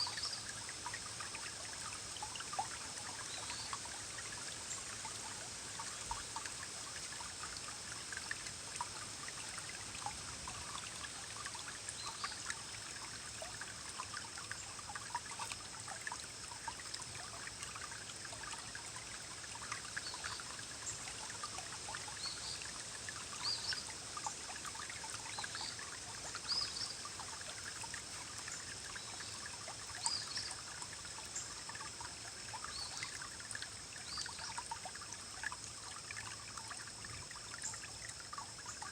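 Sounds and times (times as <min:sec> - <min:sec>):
forest stream rippling: 0:00.0 - 0:38.9
water bubbling and gurgling: 0:06.9 - 0:38.9.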